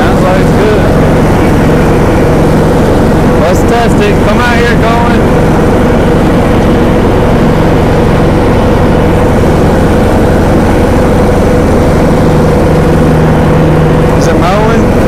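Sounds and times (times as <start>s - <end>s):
riding mower engine running: 0.0s - 15.0s.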